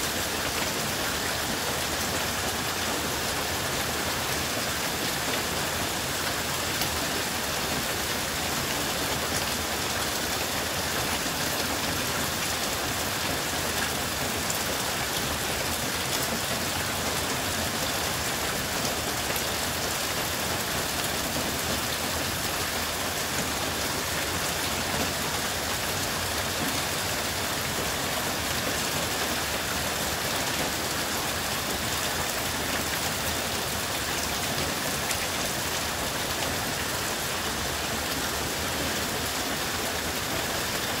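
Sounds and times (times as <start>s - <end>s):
heavy rain splashing on water: 0.0s - 41.0s.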